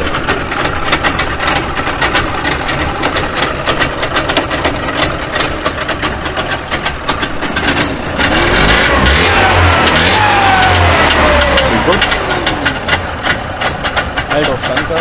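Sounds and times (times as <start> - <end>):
two-stroke engine idling: 0.0 - 15.0.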